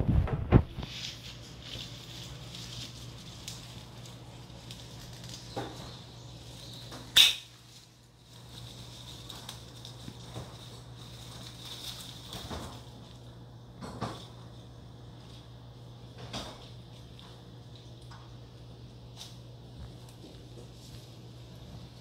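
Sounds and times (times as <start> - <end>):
leaves rustling: 0.0 - 13.6, 16.7 - 22.0
parrot nibbling leaves: 0.1 - 22.0.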